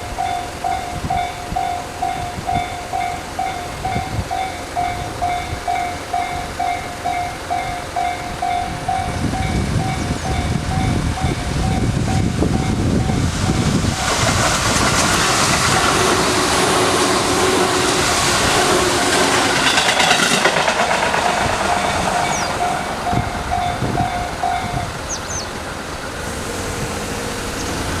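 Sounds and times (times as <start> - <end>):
level crossing warning bell: 0.0 - 14.1, 16.0 - 25.5
train wheels clattering on rails: 0.0 - 28.0.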